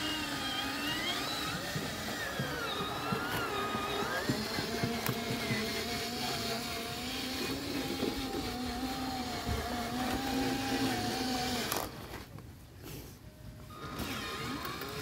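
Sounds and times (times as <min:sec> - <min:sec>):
electric motor whining: 0:00.0 - 0:12.2, 0:13.6 - 0:15.0.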